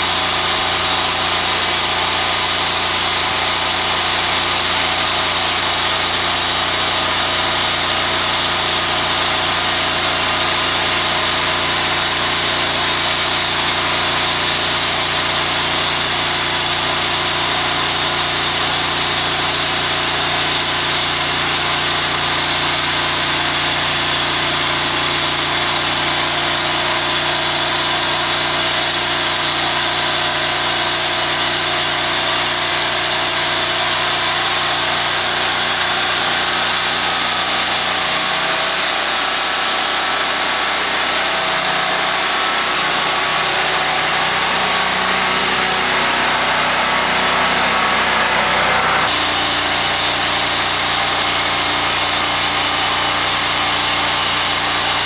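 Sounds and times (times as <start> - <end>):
band saw cutting log: 0.0 - 55.0
sawmill engine running: 0.0 - 55.0.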